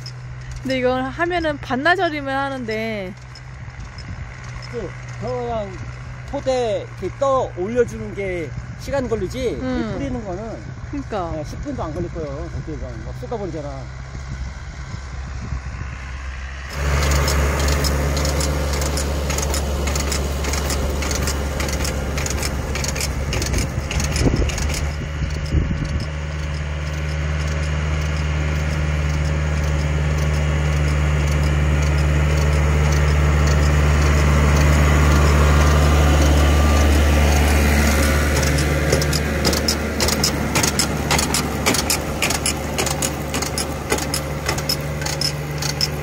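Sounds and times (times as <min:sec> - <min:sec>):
spreader rattling and clicking: 0:00.0 - 0:08.1, 0:16.7 - 0:46.0
tractor engine running: 0:00.0 - 0:46.0.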